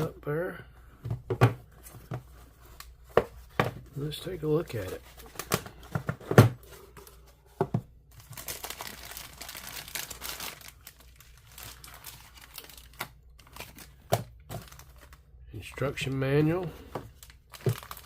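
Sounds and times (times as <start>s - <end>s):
packaging crinkling and rustling: 1.8s - 18.0s.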